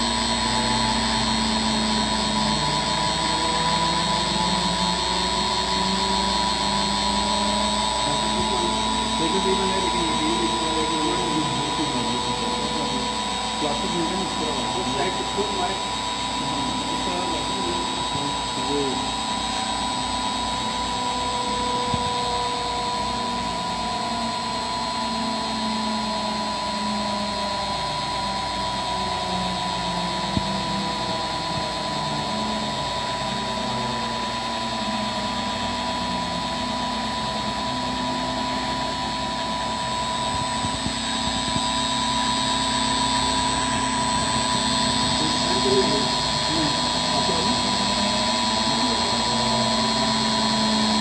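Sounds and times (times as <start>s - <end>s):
cutter engraving wood: 0.0s - 51.0s
spindle motor whining: 0.0s - 51.0s.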